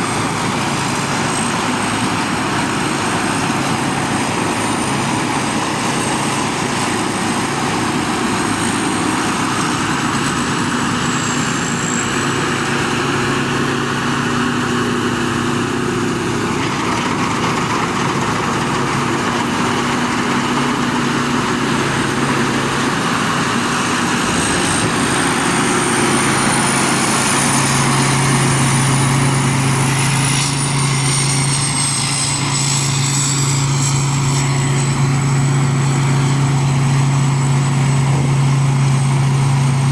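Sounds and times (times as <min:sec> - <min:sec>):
harvester engine hum: 0:00.0 - 0:39.9
high thin machinery whine: 0:00.0 - 0:39.9.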